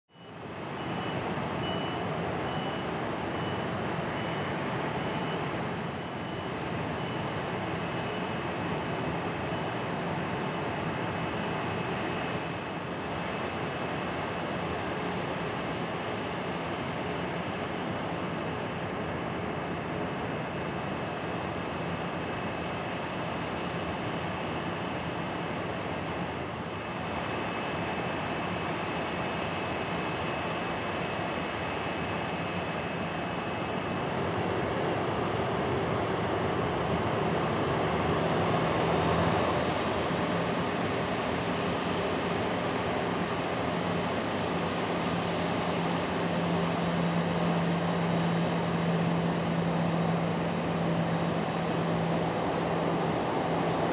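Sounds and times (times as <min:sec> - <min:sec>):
jet engines at taxi power: 0:00.1 - 0:53.9.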